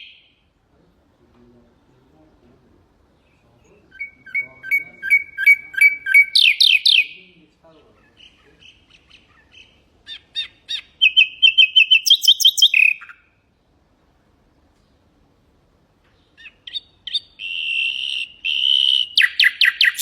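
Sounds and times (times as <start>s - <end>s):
nightingale singing: 0.0s - 0.6s, 1.7s - 13.6s, 16.0s - 20.0s.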